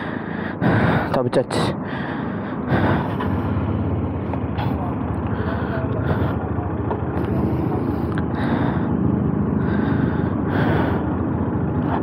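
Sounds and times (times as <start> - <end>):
motorcycle engine running: 1.8 - 12.0.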